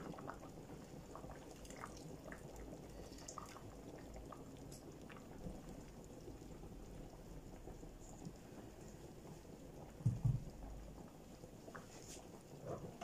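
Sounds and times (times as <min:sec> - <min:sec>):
soup bubbling in a pot: 0:00.0 - 0:13.0.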